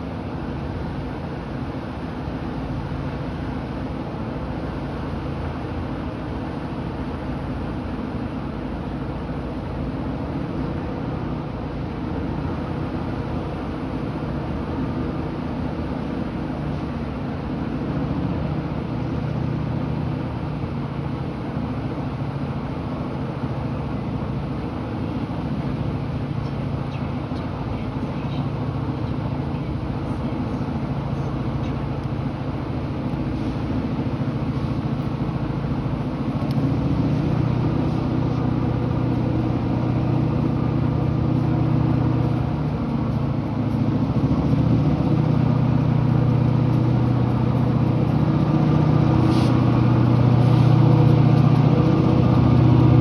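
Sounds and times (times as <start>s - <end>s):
locomotive engine rumble: 0.0s - 53.0s.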